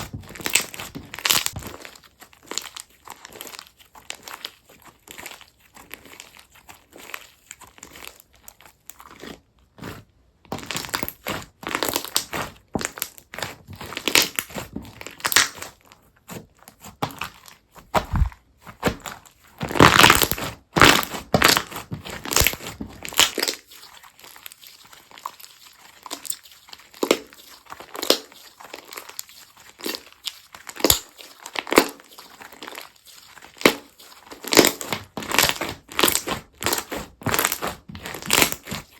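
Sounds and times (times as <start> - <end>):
crunchy slime crackling: 0.0 - 38.9.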